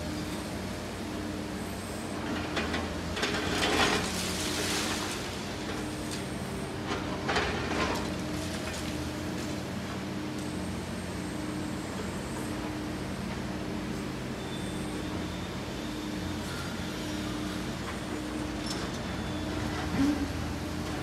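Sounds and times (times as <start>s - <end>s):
excavator running: 0.0s - 21.0s.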